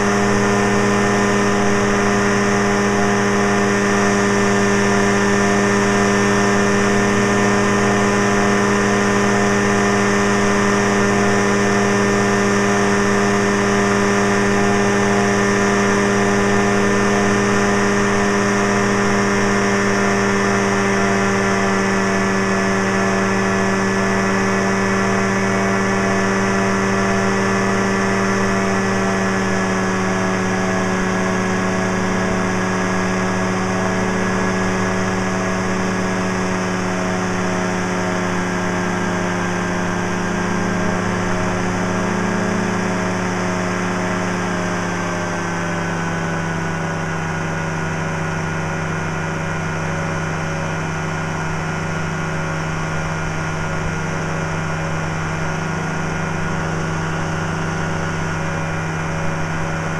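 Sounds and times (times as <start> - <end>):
engine and propeller droning: 0.0 - 59.9.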